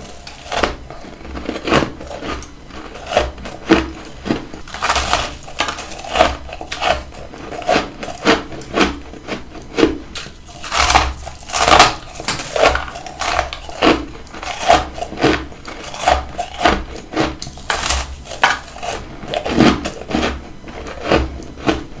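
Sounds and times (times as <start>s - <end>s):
frost being chewed: 0.0s - 22.0s.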